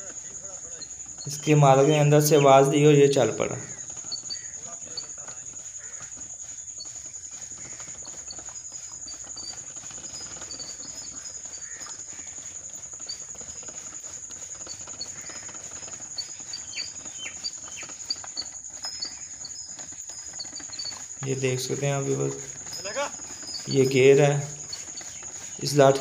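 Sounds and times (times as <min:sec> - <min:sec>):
bird chirps: 0:00.0 - 0:26.0
insects chirring: 0:00.0 - 0:26.0.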